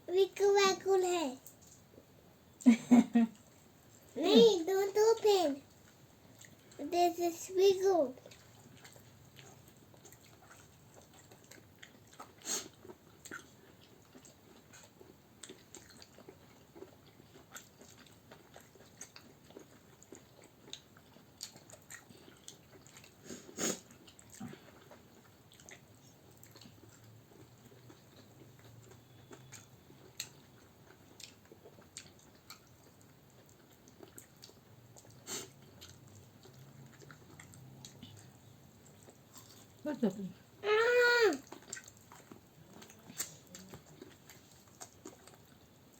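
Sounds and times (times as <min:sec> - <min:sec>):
chewing and biting food: 0:05.0 - 0:06.8, 0:08.1 - 0:39.8, 0:41.4 - 0:45.9.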